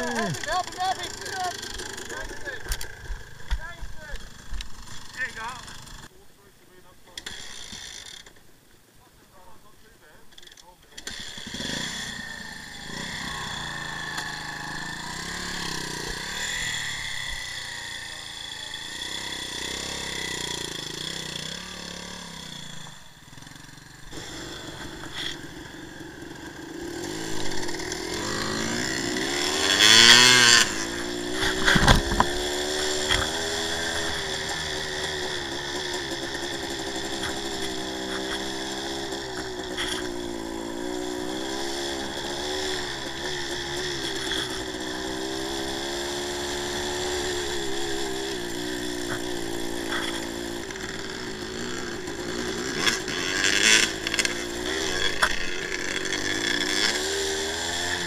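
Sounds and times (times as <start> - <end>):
two-stroke motorcycle engine revving: 0.0 - 6.1, 7.1 - 8.4, 10.9 - 58.0.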